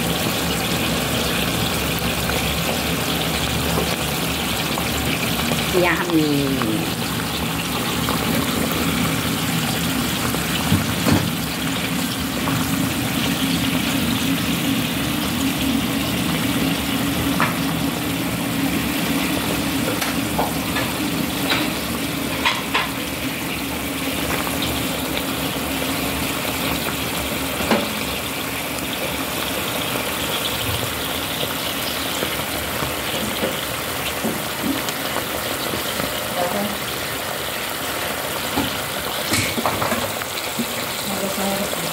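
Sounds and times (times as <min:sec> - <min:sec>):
sauce simmering and bubbling: 0:00.0 - 0:41.2.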